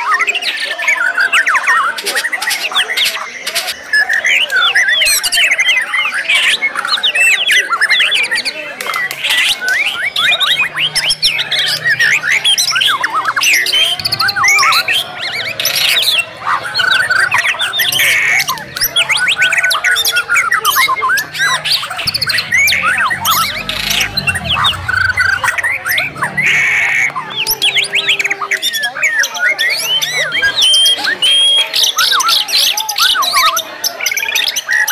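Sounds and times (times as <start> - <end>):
chorus of songbirds singing: 0.0 - 34.9.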